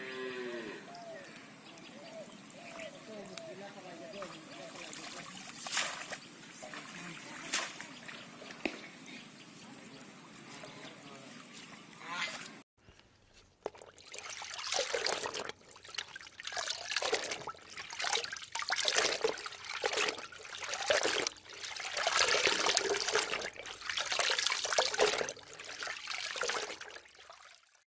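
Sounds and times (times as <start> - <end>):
water splashing and trickling: 1.0 - 12.6, 13.3 - 27.8.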